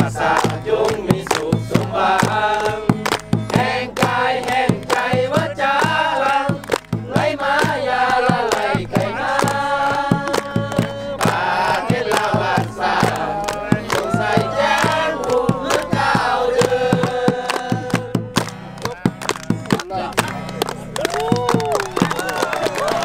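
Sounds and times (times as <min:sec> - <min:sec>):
group singing in chorus: 0:00.0 - 0:18.7
rhythmic hand-clapping: 0:00.0 - 0:23.0.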